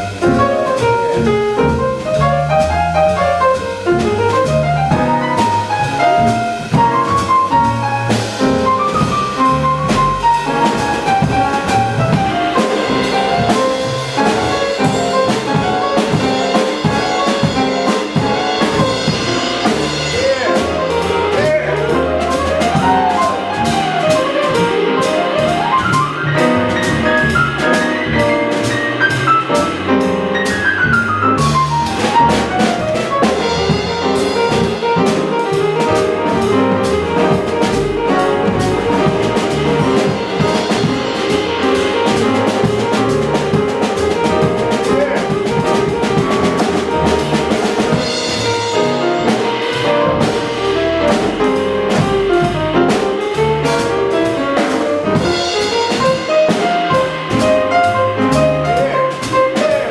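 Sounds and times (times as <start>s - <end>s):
drums and cymbals: 0.0s - 59.9s
fast jazz piano: 0.0s - 59.9s
upright bass: 0.0s - 59.9s.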